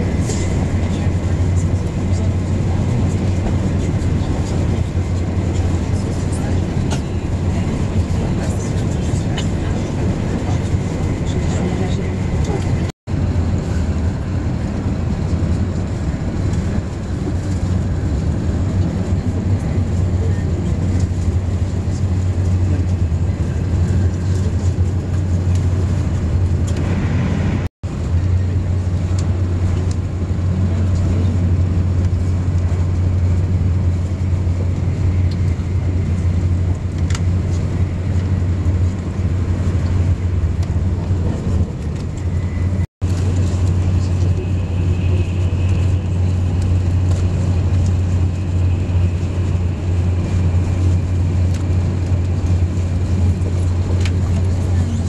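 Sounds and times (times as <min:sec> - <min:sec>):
train rumbling inside carriage: 0:00.0 - 0:55.0.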